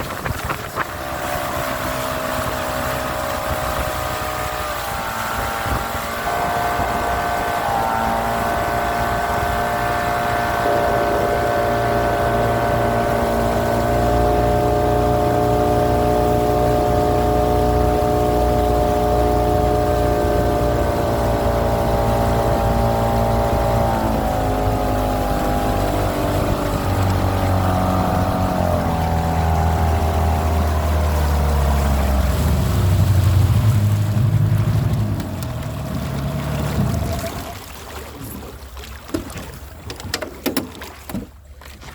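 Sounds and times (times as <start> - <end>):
motorboat engine running: 0.0 - 41.9.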